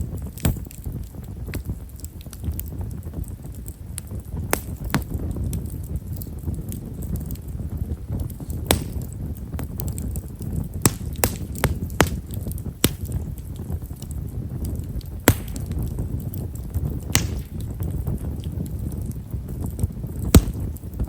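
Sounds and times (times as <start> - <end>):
bonfire low rumble: 0.0 - 21.0
fire crackling pops: 0.0 - 21.0.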